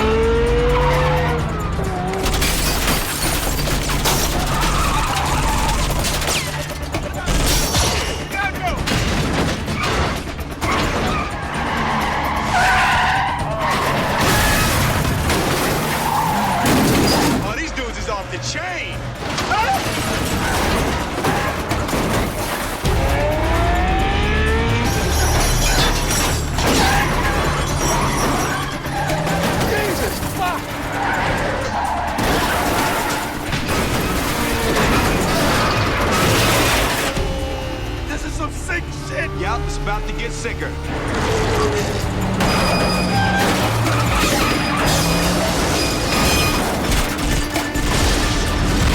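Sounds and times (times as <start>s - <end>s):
car engines running: 0.0s - 48.9s
film score music: 0.0s - 48.9s
tyres skidding: 0.0s - 48.9s
metal crashing and grinding: 2.2s - 17.5s, 19.2s - 23.1s, 24.8s - 37.3s, 40.9s - 48.9s.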